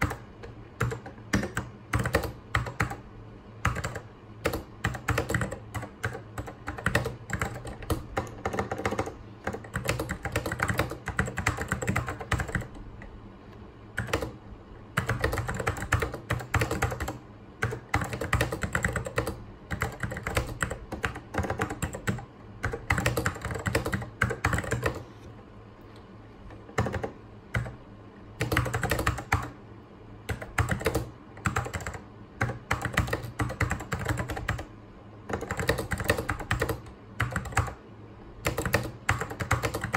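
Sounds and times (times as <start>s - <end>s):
mechanical keyboard typing: 0.0s - 3.0s, 3.6s - 12.8s, 14.0s - 14.4s, 15.0s - 25.1s, 26.7s - 27.8s, 28.4s - 29.6s, 30.3s - 34.7s, 35.3s - 37.8s, 38.4s - 39.9s.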